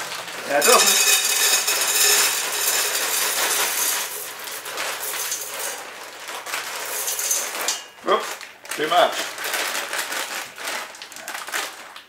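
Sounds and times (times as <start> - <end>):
dry pasta rattling into metal pot: 0.0 - 11.8.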